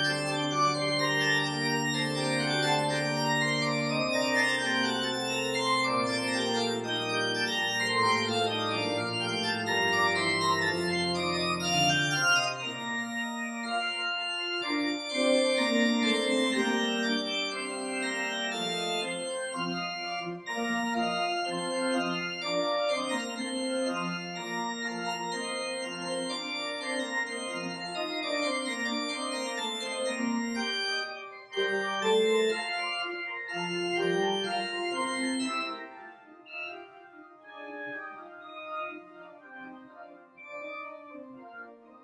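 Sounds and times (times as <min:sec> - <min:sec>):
church organ chords: 0:00.0 - 0:42.0.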